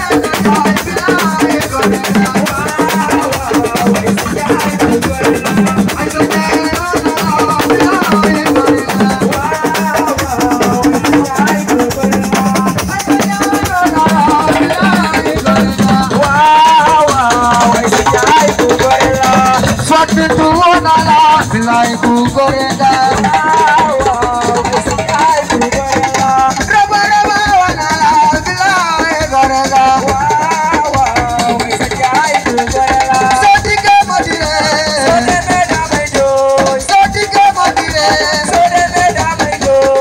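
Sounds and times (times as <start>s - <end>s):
shaker and drum rhythm: 0.0s - 40.0s.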